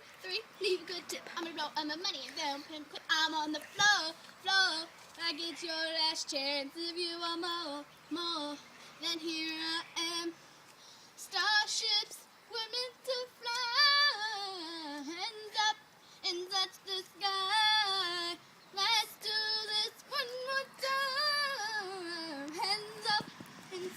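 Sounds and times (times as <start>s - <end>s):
woman singing: 0.2s - 10.4s, 11.2s - 23.9s.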